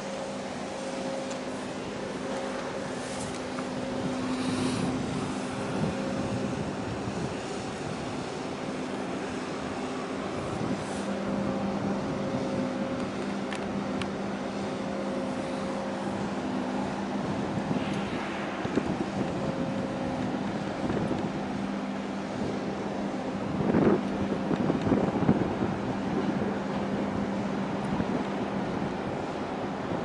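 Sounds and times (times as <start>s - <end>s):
continuous rushing noise: 0.0s - 30.0s
ship engine machinery drone: 0.0s - 30.0s.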